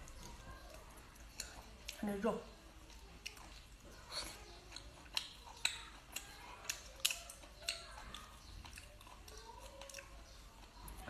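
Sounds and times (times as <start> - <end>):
wet mouth chewing smacks: 0.0 - 2.0, 2.7 - 11.0.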